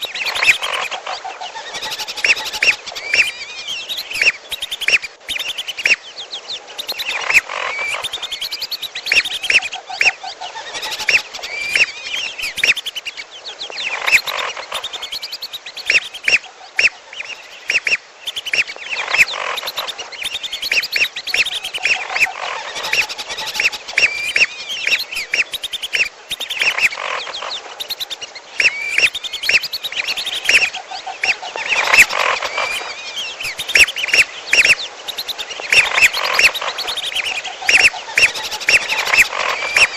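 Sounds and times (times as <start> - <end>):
high whistled bird calls: 0.0 - 1.0, 1.6 - 6.0, 6.8 - 39.9
low rapid bird trill: 0.0 - 39.9.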